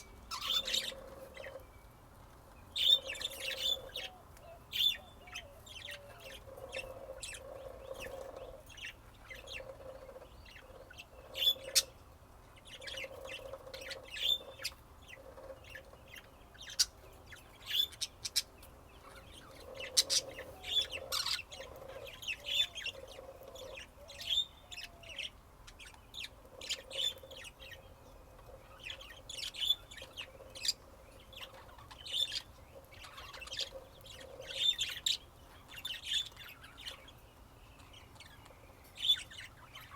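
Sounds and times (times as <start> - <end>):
budgerigars chirping: 0.0 - 1.6, 2.7 - 12.0, 12.6 - 39.9.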